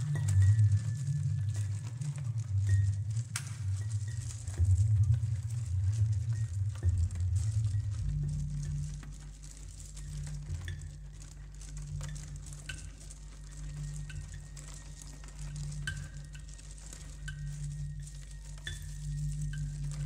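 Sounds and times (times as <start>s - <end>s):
faint crackling hiss: 0.0s - 20.0s
low steady drone: 0.0s - 20.0s.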